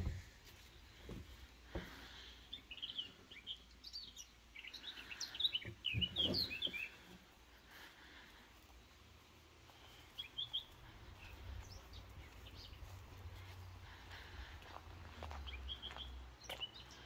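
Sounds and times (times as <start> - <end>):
small songbirds chirping: 0.0 - 17.0.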